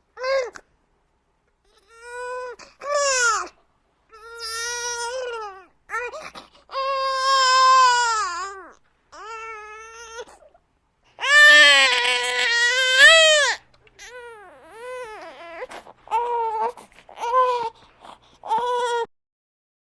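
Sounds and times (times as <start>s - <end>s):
infant crying: 1.7s - 10.5s, 11.2s - 19.1s.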